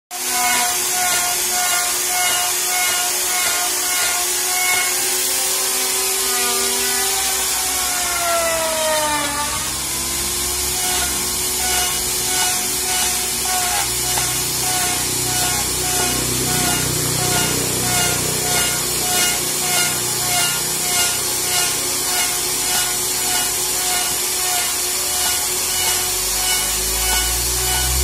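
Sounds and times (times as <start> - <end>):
router bit cutting wood: 0.1 - 28.0
trim router motor whine: 0.1 - 28.0.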